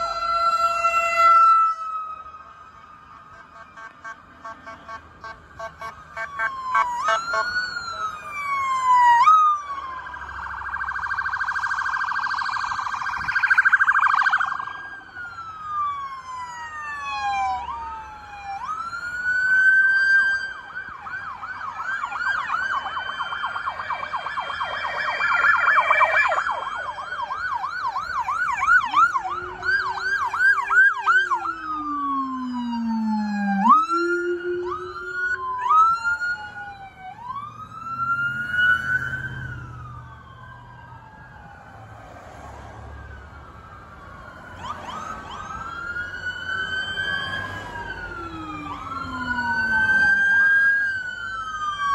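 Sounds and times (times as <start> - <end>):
deep siren sweep: 0.0 - 51.9
police sirens wailing: 0.0 - 51.9
siren fast yelp: 5.2 - 41.9, 43.7 - 51.9
siren rapid warble: 5.6 - 42.0, 42.8 - 51.9.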